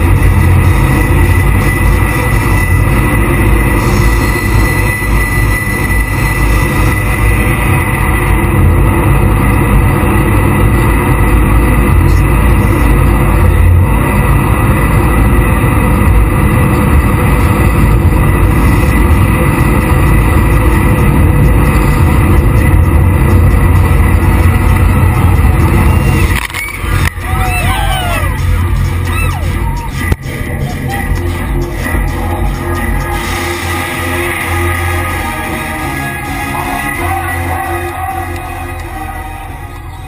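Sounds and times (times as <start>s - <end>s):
boat engine rumble: 0.0s - 40.0s
wind: 0.0s - 40.0s.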